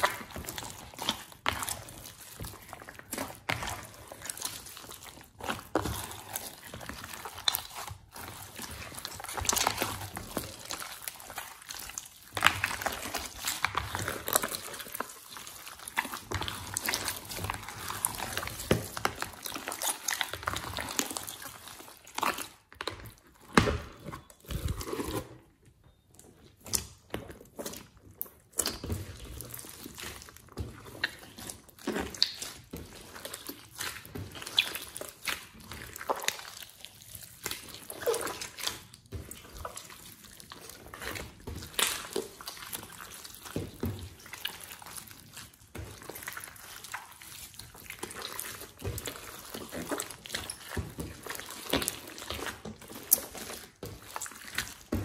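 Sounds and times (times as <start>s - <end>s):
slime squelching by hand: 0.0s - 55.0s.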